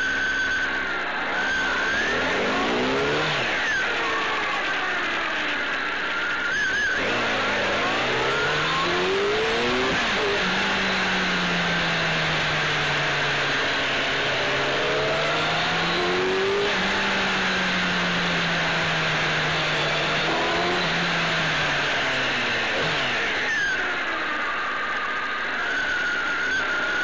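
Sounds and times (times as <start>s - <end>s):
motorcycle engine revving: 0.0s - 27.0s
road noise: 0.0s - 27.0s.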